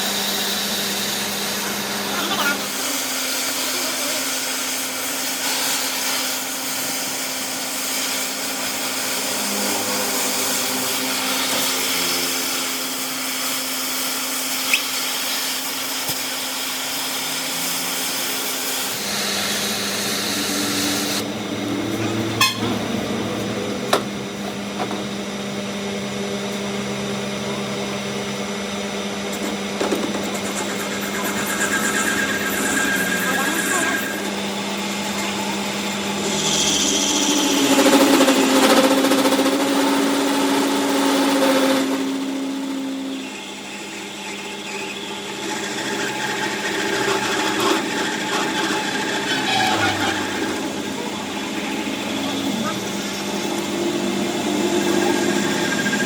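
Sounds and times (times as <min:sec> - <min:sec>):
workshop machinery humming: 0:00.0 - 0:56.0.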